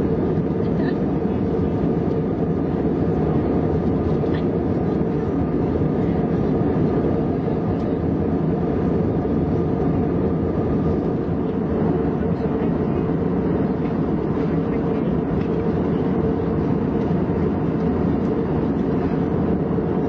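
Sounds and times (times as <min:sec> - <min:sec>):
airliner cabin noise: 0:00.0 - 0:20.0.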